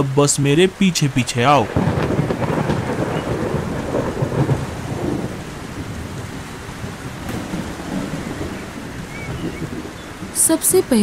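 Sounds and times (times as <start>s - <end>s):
heavy rain: 0.0s - 11.0s
thunder rumble: 0.4s - 11.0s.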